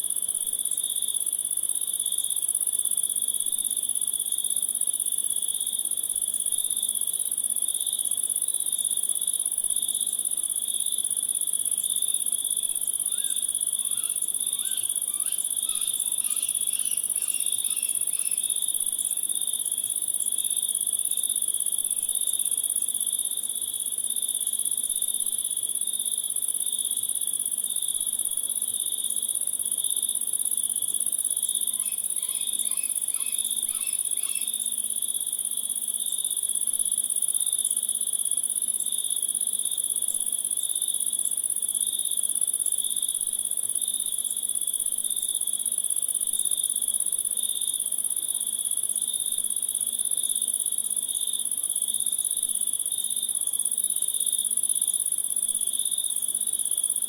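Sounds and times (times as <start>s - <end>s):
crickets chirping: 7.7s - 57.0s.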